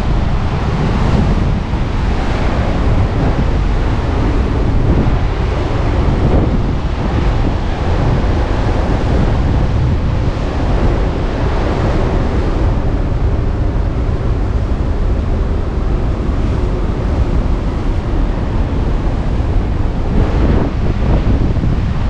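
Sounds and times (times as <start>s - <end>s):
gusting wind on microphone: 0.0s - 22.0s
surf breaking on rocky shore: 0.0s - 22.0s.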